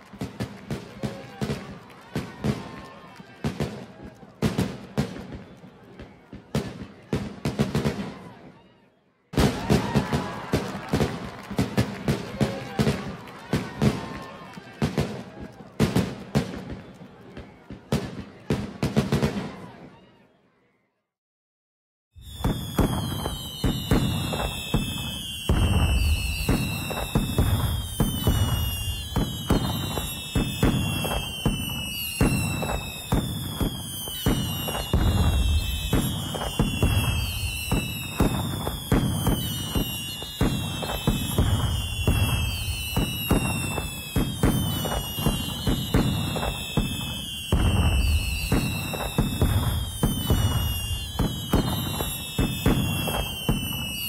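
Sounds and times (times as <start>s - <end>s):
fireworks whistles falling in pitch: 0.0s - 8.2s, 9.4s - 19.5s, 22.2s - 54.0s
fireworks bangs and crackles: 0.0s - 8.7s, 9.3s - 20.1s, 22.2s - 54.0s.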